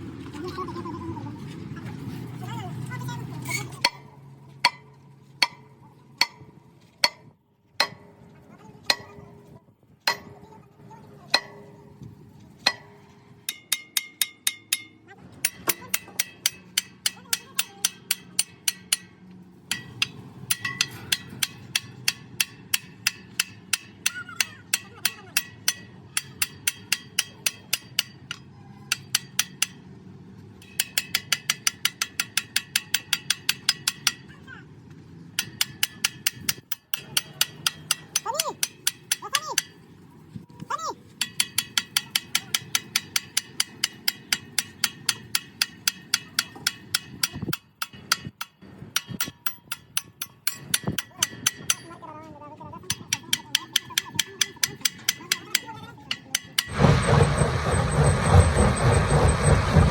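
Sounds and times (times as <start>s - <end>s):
hammer striking metal: 3.8s - 10.6s, 11.3s - 29.9s, 30.6s - 34.3s, 35.3s - 39.8s, 41.2s - 52.0s, 52.9s - 59.9s.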